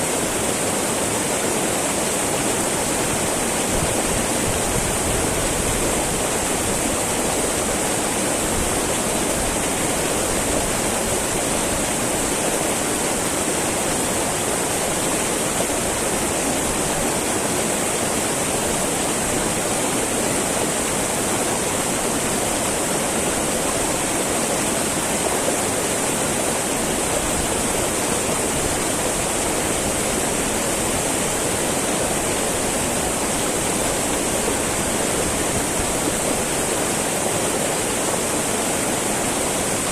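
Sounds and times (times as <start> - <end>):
river babbling over rocks: 0.0 - 39.9.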